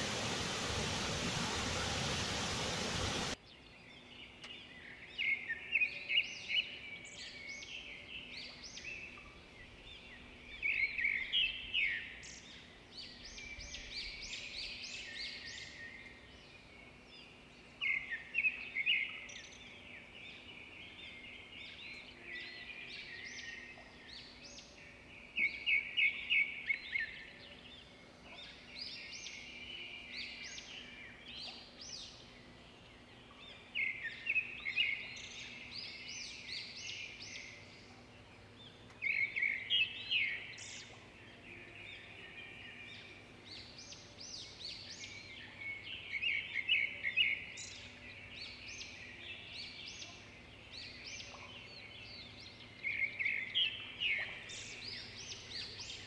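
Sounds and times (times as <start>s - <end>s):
soft bird chirps and trills: 0.0s - 56.0s.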